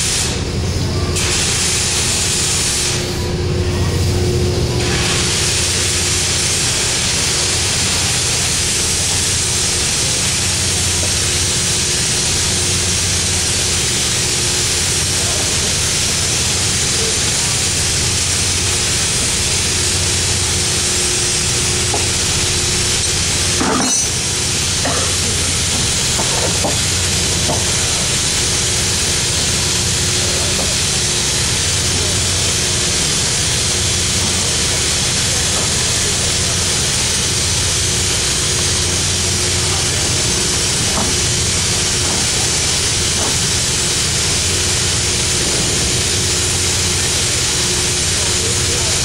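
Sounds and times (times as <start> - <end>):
boat machinery humming and hissing: 0.0 - 49.0.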